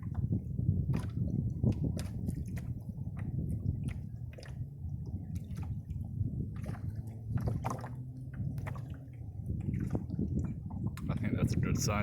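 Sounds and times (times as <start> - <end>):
steady low rumble: 0.0 - 12.0
water sloshing around canoe: 0.0 - 12.0.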